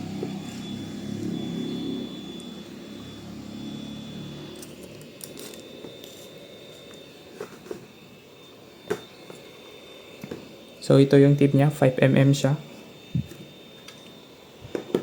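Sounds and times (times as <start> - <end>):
blower fan humming with whine: 0.0 - 15.0.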